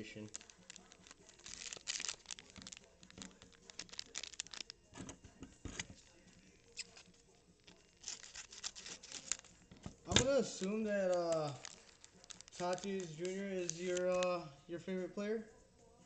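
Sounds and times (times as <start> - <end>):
foil wrapper crinkling: 0.0 - 14.5.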